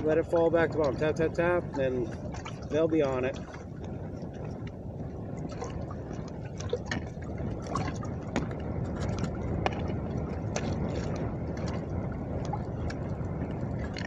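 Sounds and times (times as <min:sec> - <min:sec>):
low rumble of wind and water: 0:00.0 - 0:14.0
waves slapping against boat hull: 0:00.0 - 0:14.0.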